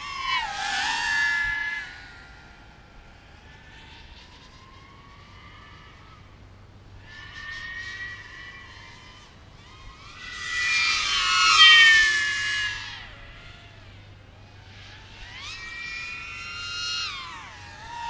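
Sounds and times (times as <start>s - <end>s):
distant drone motors whining: 0.0s - 18.0s.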